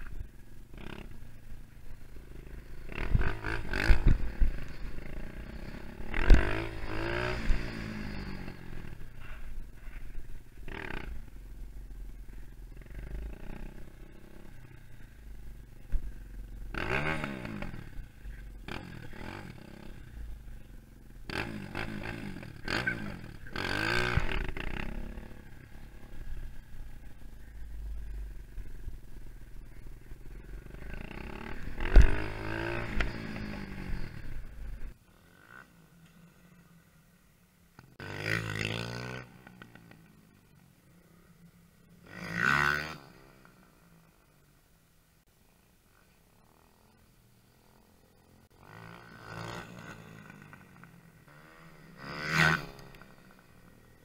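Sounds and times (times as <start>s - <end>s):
dirt bike engine revving: 0.6s - 11.4s, 12.4s - 36.4s, 38.0s - 40.0s, 41.8s - 43.7s, 46.4s - 54.0s.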